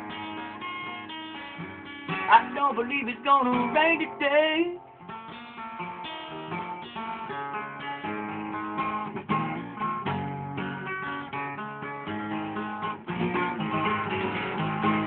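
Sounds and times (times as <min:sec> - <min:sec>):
acoustic guitar country music: 0:00.0 - 0:15.0.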